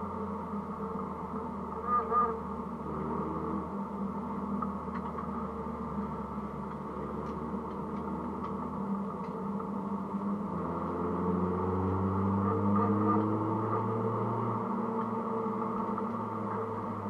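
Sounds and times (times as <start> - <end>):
car engine from inside cabin: 0.0 - 17.0
road noise: 0.0 - 17.0.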